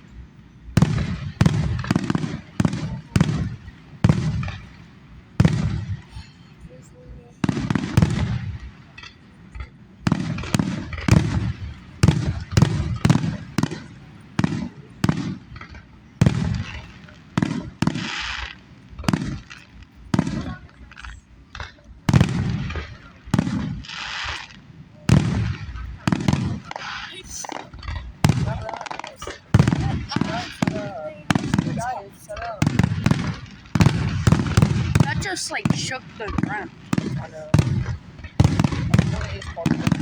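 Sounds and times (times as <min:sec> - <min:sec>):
fireworks booming: 0:00.0 - 0:40.0
fireworks crackling: 0:00.0 - 0:40.0.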